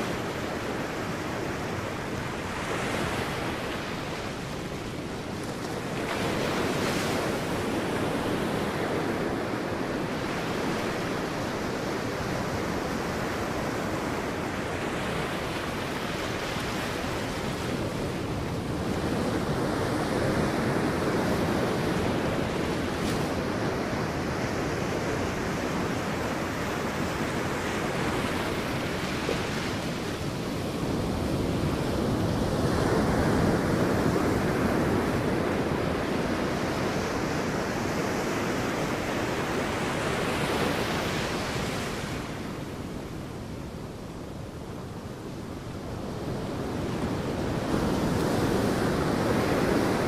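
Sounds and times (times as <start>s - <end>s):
sea waves breaking on beach: 0.0s - 50.0s.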